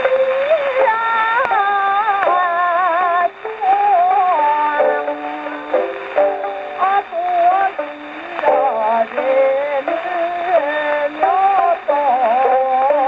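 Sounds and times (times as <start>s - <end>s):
women singing on gramophone record: 0.0s - 13.0s.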